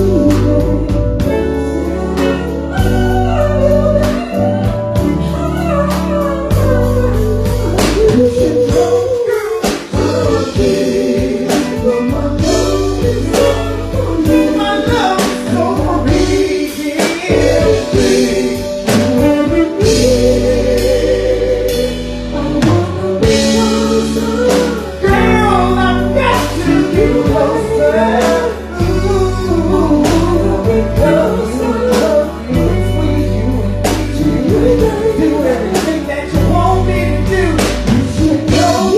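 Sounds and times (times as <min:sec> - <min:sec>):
drums: 0:00.0 - 0:38.9
guitar: 0:00.0 - 0:38.9
low bass notes: 0:00.0 - 0:38.9
person singing with vibrato: 0:00.0 - 0:38.9.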